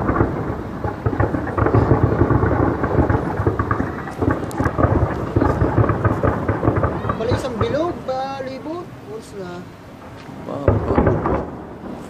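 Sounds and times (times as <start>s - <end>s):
deep fireworks rumble: 0.0s - 12.0s
fireworks crackling pops: 0.0s - 12.0s.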